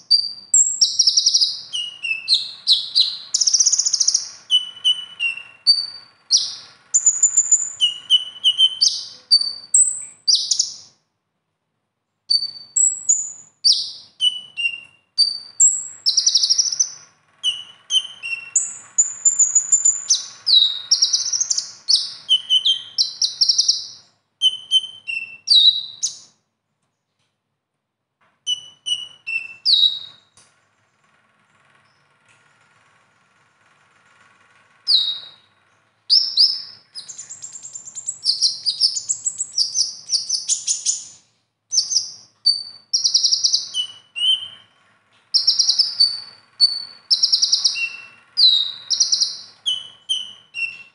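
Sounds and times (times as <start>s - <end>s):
sunbird singing chirps and trills: 0.0s - 11.0s, 12.3s - 26.4s, 28.5s - 30.3s, 34.9s - 35.5s, 36.1s - 50.9s.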